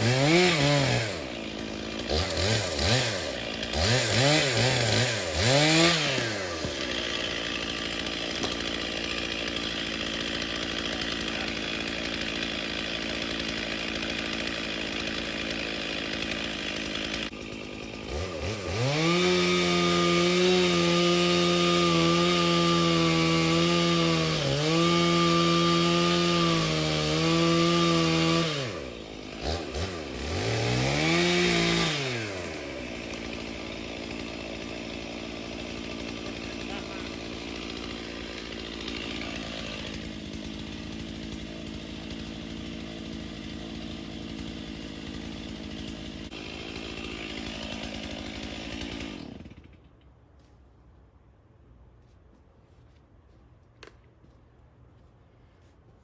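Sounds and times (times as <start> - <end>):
chainsaw revving and cutting wood: 0.0 - 50.2.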